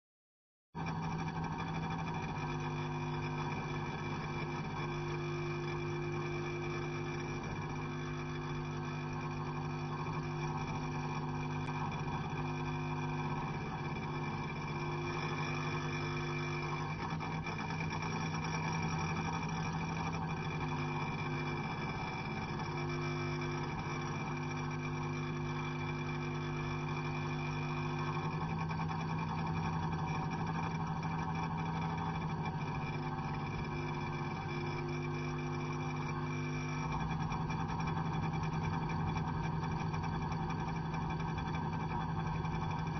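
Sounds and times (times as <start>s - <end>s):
electric meter humming: 0.8s - 42.9s.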